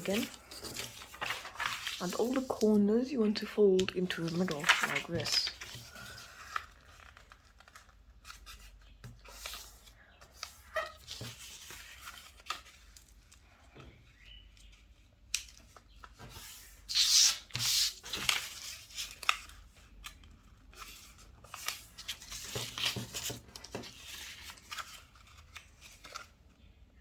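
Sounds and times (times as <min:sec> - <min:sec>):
paper being folded: 0:00.0 - 0:13.4, 0:14.5 - 0:26.3.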